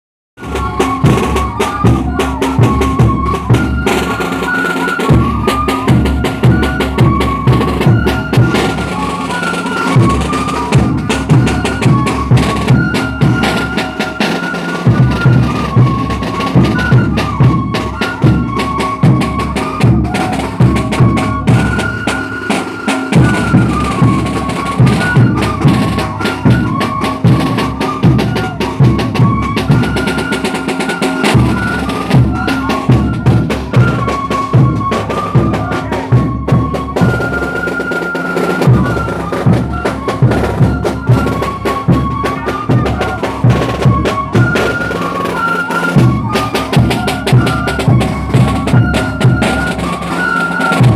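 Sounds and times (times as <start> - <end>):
constant drumming: 0.4 - 50.9
high repeating folk melody: 0.4 - 50.9.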